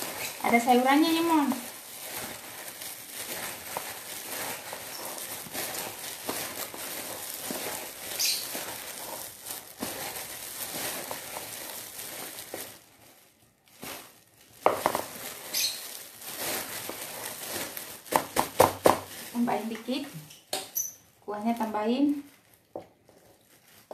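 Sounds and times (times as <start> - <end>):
plastic glove crinkling: 0.0 - 23.9.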